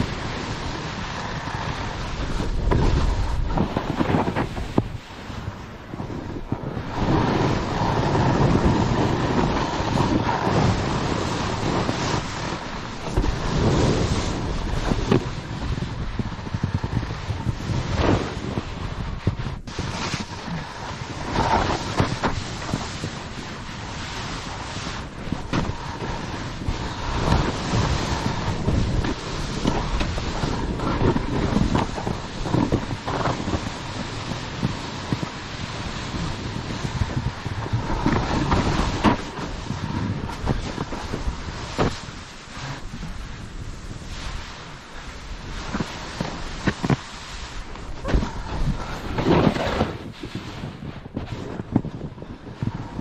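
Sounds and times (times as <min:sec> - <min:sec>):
snowboard scraping snow: 0:00.0 - 0:53.0
wind rushing over microphone: 0:00.0 - 0:53.0.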